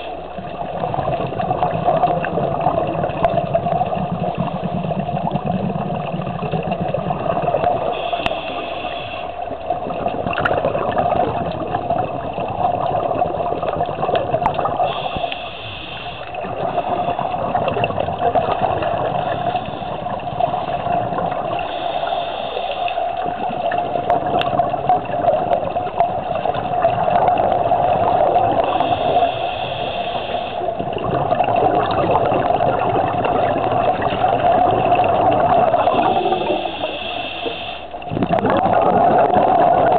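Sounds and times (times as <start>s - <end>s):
underwater bubbling of exhaled air: 0.0s - 39.9s.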